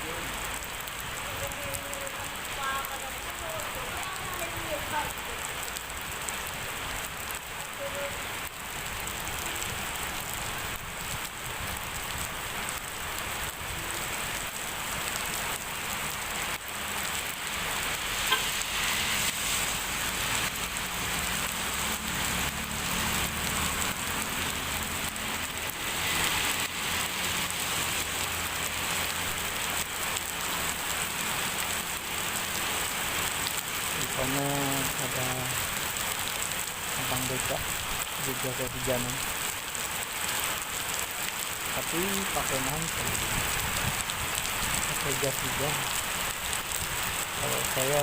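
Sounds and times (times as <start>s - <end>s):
heavy rain on hard surfaces: 0.0s - 48.0s.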